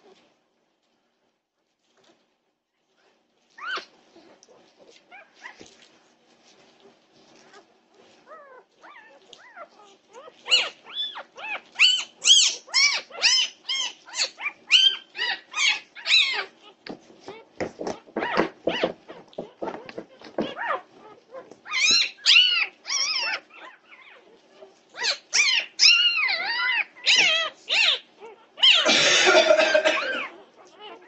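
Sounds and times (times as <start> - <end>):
puppies crying: 3.5 - 5.7, 7.4 - 31.0.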